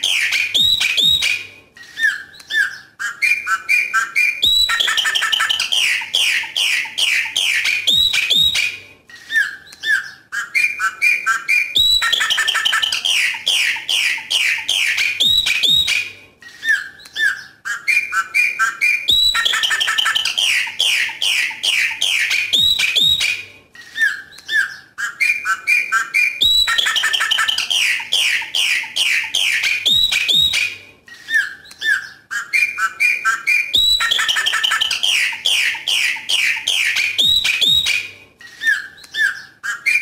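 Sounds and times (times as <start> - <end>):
clear whistled bird notes: 0.0 - 40.0
blackbird singing rapid loud notes: 2.0 - 8.7, 9.4 - 16.0, 16.6 - 23.4, 24.0 - 30.8, 31.4 - 40.0.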